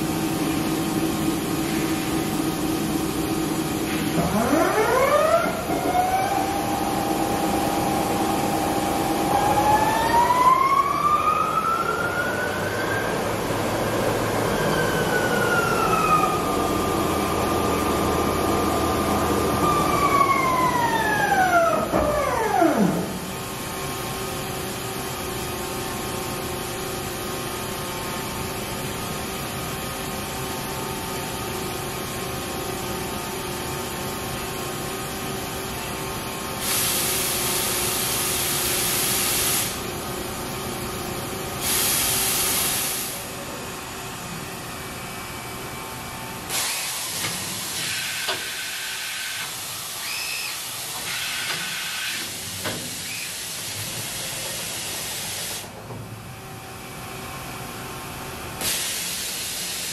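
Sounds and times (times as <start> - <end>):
machine pumps and drives humming: 0.0 - 59.9.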